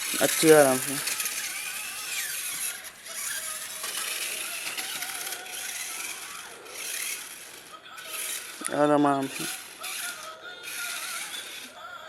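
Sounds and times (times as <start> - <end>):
toy truck motor whirring: 0.0 - 12.0.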